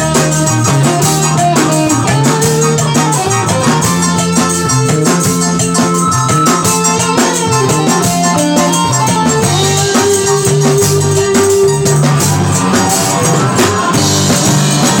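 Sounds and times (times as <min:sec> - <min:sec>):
drum kit with cymbals: 0:00.0 - 0:15.0
electric guitars: 0:00.0 - 0:15.0.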